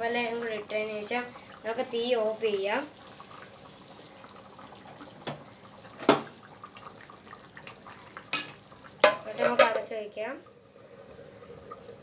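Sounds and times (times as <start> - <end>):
curry bubbling in pot: 0.0 - 12.0.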